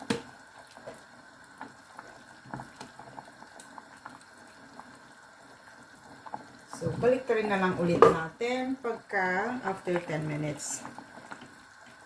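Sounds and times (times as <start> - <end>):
sauce bubbling and popping: 0.0 - 12.0.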